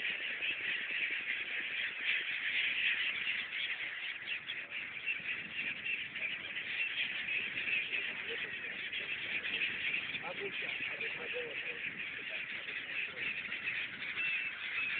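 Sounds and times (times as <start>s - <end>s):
flock of birds calling: 0.0s - 14.9s.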